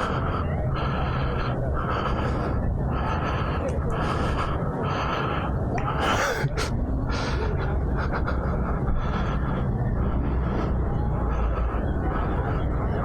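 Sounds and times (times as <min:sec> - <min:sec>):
person breathing hard: 0:00.0 - 0:13.0
steady low rumble: 0:00.0 - 0:13.0.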